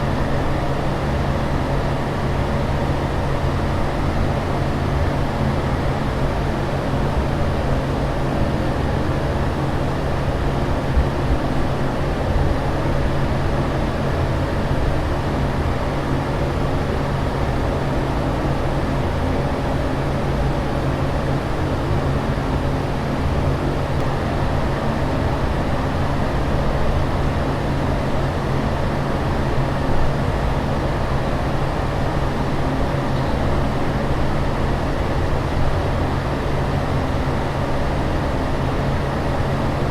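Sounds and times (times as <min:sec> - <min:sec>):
airliner cabin engine drone: 0:00.0 - 0:39.9
constant low hum: 0:00.0 - 0:39.9.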